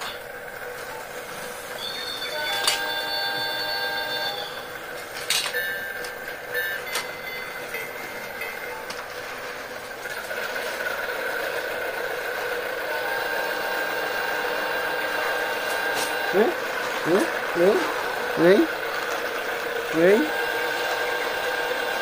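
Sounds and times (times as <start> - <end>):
toy train motor whirring: 1.1 - 22.0.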